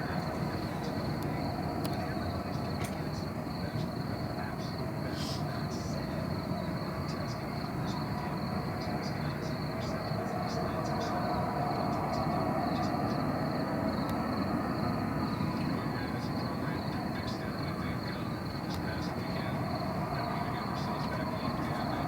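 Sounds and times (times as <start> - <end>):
loud rolling rumble with howling: 0.0 - 22.0.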